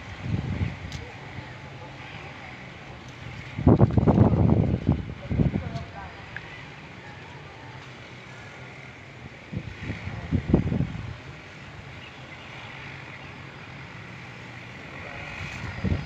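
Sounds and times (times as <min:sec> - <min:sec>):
drone rotors humming: 0:00.0 - 0:16.0.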